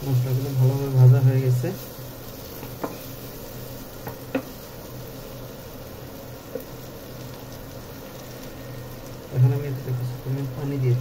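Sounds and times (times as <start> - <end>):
induction cooktop hum: 0.0 - 11.0
soft frying sizzle: 0.0 - 11.0
wooden spatula stirring in pan: 0.0 - 11.0.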